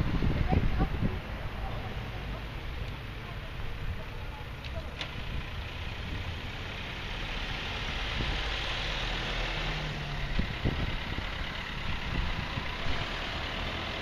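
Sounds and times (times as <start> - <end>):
vehicles driving past: 0.0 - 14.0.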